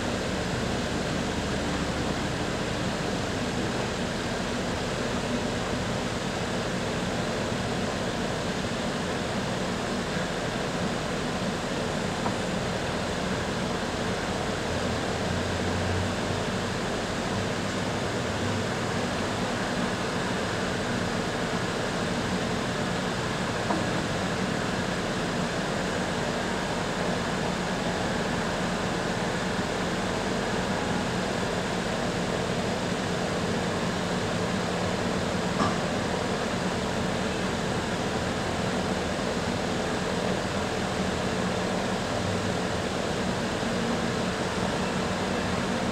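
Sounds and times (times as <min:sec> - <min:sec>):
construction machinery: 0:00.0 - 0:45.9.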